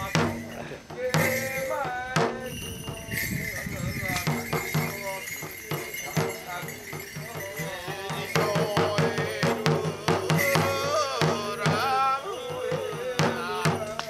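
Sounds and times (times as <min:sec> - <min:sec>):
taiko drum beaten rapidly: 0:00.0 - 0:03.3, 0:04.2 - 0:14.0.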